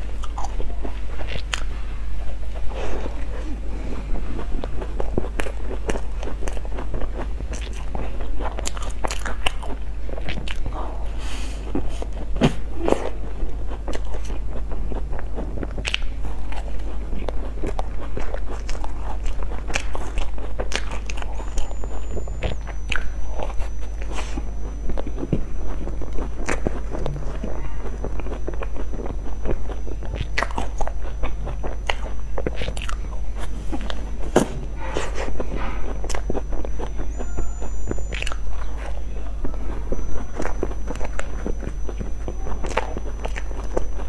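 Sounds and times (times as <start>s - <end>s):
crunchy chewing: 0.0s - 44.0s.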